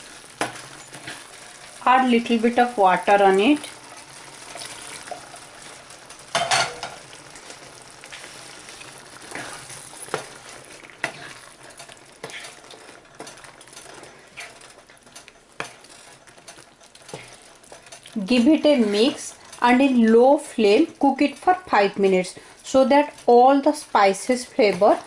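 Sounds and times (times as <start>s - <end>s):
curry sizzling in a pot: 0.0s - 25.0s.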